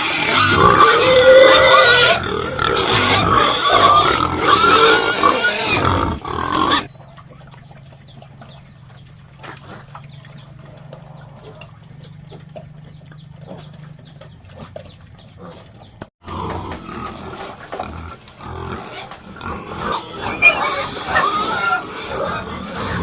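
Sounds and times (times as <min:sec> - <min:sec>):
pigs grunting: 0:00.0 - 0:23.0.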